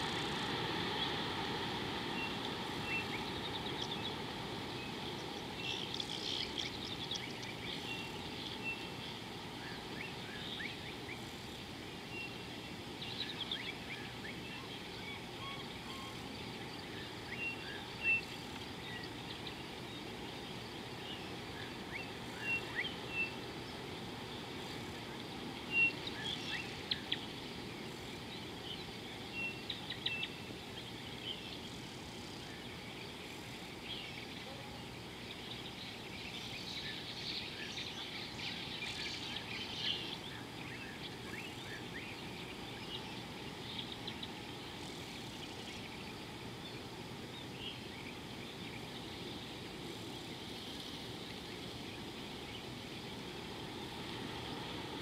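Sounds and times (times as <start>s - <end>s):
birds chirping: 0.0s - 11.2s, 12.0s - 55.0s
outdoor background hiss: 0.0s - 55.0s.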